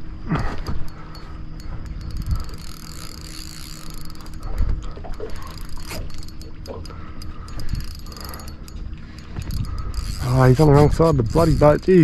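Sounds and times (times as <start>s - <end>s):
fishing reel clicking: 0.6s - 12.0s.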